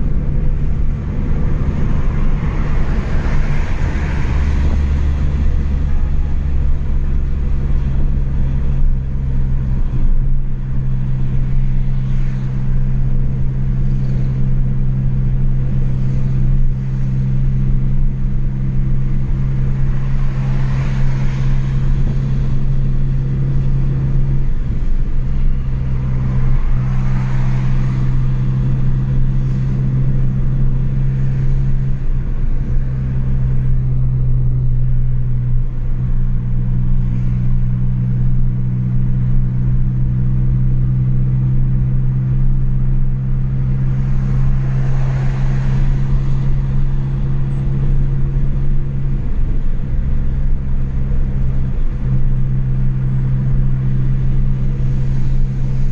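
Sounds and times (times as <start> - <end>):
car exhaust drone: 0.0 - 55.9.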